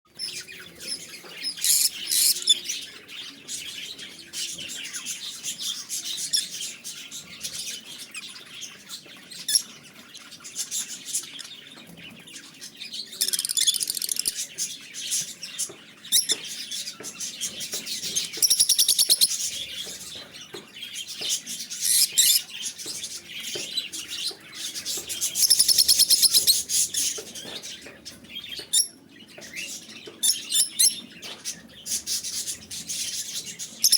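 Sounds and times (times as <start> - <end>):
parrots chirping and chattering: 0.1 - 33.9.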